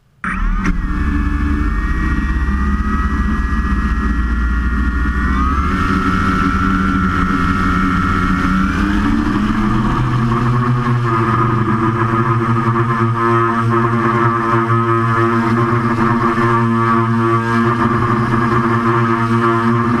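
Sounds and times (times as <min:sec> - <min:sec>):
quadcopter propellers whining: 0:00.2 - 0:20.0.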